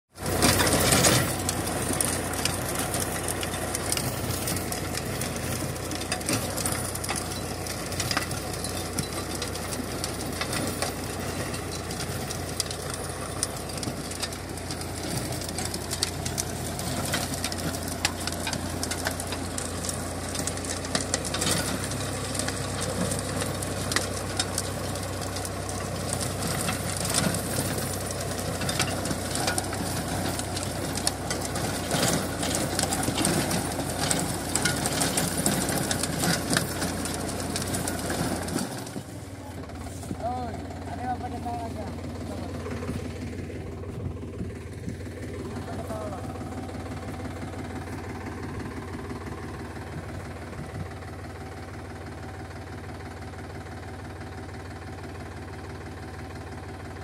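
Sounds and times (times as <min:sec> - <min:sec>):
rotavator blades churning soil: 0:00.1 - 0:57.0
tractor diesel engine: 0:00.1 - 0:57.0.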